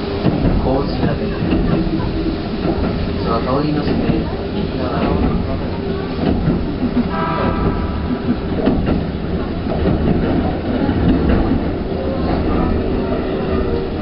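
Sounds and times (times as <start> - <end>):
electric train rumbling past: 0.0 - 14.0
wheels clacking over rails: 0.0 - 14.0.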